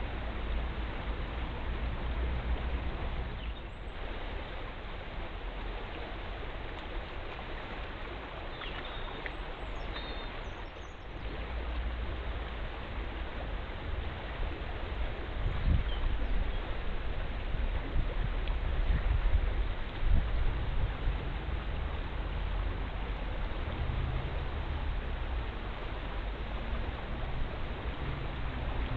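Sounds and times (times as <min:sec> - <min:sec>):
river rushing: 0:00.0 - 0:28.9.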